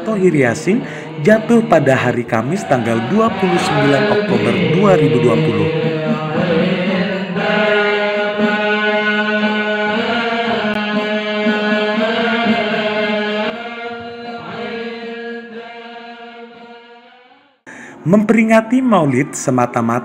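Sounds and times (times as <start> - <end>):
men chanting into a microphone: 0.0 - 17.3.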